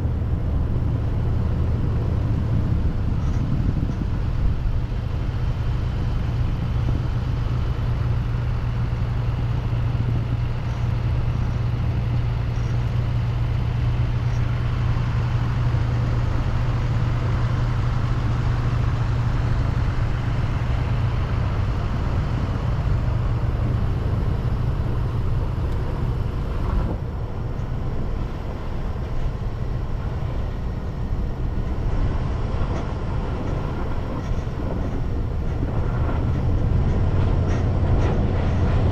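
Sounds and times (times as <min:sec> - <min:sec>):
low rumble: 0:00.0 - 0:38.9
tyre and road noise: 0:00.0 - 0:38.9.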